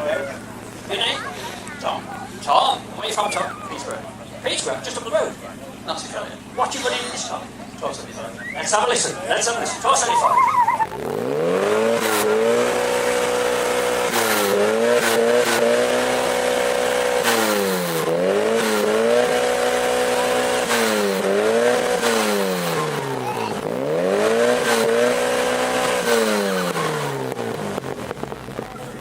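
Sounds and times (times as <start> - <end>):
car engine revving hard: 0.0 - 29.0.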